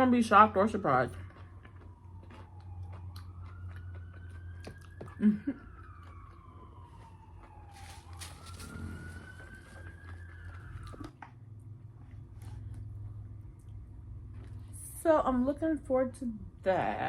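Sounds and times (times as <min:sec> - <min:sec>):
emergency vehicle siren wailing: 0:00.0 - 0:14.3.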